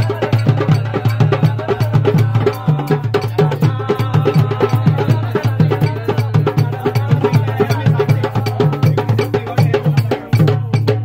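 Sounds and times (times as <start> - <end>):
hand drums playing fast rhythm: 0.0 - 11.0.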